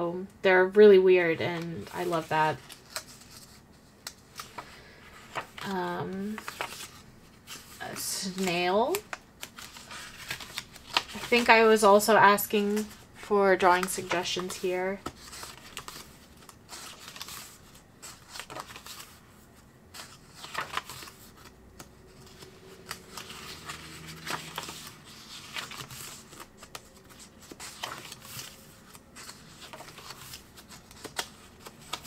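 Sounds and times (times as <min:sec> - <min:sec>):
paper pages rustling: 0:01.5 - 0:32.0.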